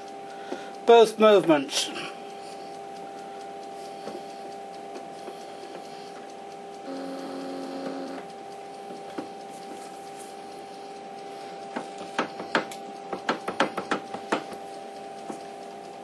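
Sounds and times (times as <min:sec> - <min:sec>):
lathe humming: 0:00.0 - 0:16.0
sharp mechanical clicks: 0:00.8 - 0:16.0.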